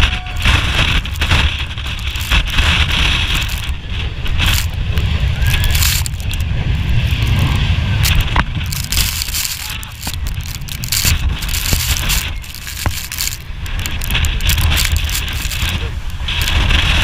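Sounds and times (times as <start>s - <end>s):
sand crackling: 0.0s - 17.0s
wind buffeting microphone: 0.0s - 17.0s.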